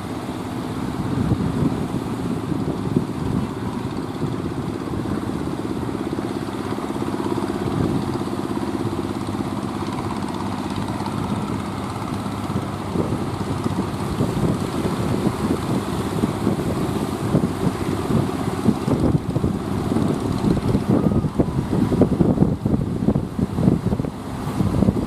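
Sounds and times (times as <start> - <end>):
boat engine humming: 0.0 - 25.0
sea noise: 0.0 - 25.0
wind: 0.0 - 25.0.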